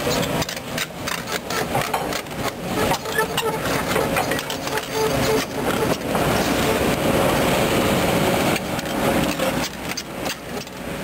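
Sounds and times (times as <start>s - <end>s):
diesel engine: 0.0s - 11.0s
steel tracks over gravel: 0.0s - 11.0s.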